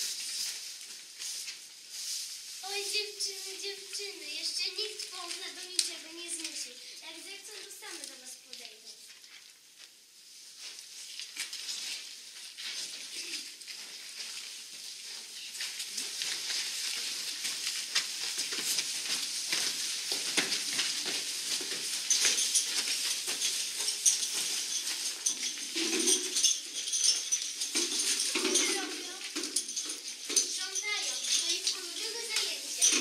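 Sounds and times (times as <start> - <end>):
crepe paper costumes rustling: 0.0 - 33.0.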